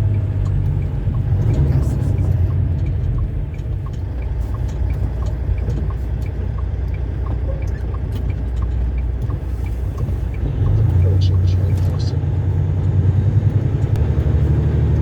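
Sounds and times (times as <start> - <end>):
faint regular ticking: 0.0 - 12.6
truck engine and road rumble: 0.0 - 15.0.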